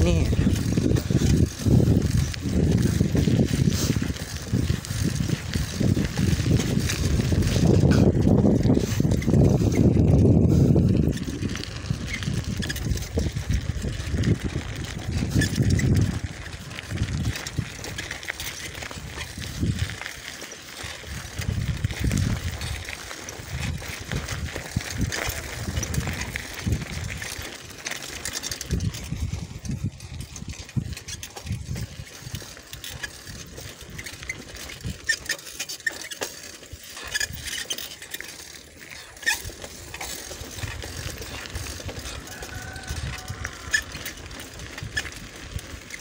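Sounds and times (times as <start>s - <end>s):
wind buffeting microphone: 0.0s - 35.3s, 39.3s - 46.0s
bicycle rattling on gravel: 0.0s - 46.0s.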